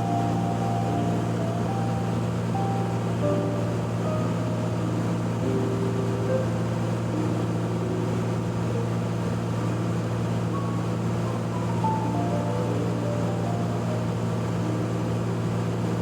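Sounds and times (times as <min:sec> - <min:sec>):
airplane engine and propeller drone: 0:00.0 - 0:16.0.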